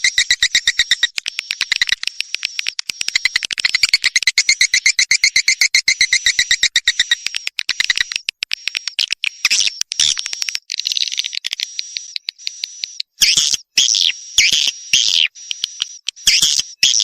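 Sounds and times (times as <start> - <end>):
bird clicks: 0.0 - 13.6, 15.4 - 16.7
high twittering bird chirps: 0.0 - 17.0.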